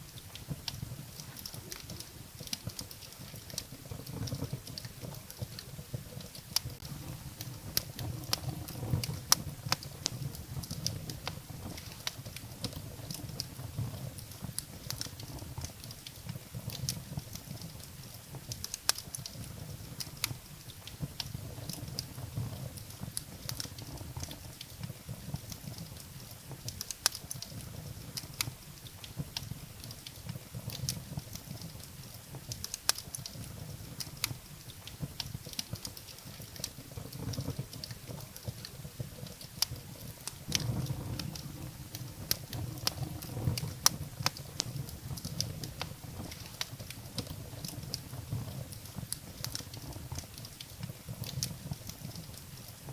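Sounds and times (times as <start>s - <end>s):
firewood crackling and popping: 0.0s - 52.9s
low rumble of flames: 0.0s - 52.9s.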